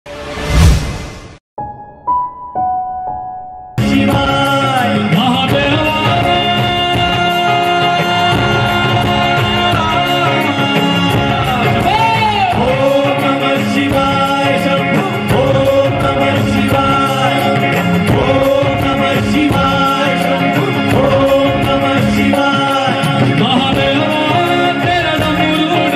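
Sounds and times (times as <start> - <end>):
amplified band with drums: 3.8 - 25.9
man singing into microphone: 3.8 - 25.9.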